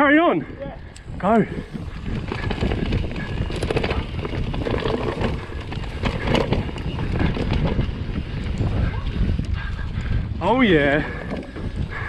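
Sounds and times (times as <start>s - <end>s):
tyres and wind rumbling: 0.0s - 12.0s
bike rattling over bumps: 1.0s - 12.0s.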